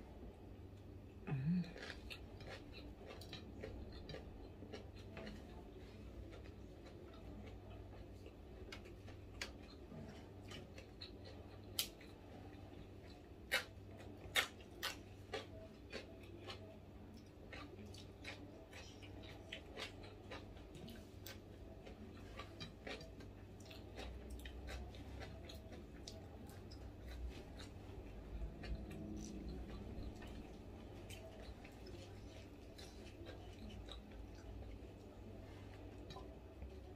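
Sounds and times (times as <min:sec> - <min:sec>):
low steady hum: 0:00.0 - 0:36.9
person chewing crunchy food: 0:01.3 - 0:36.9.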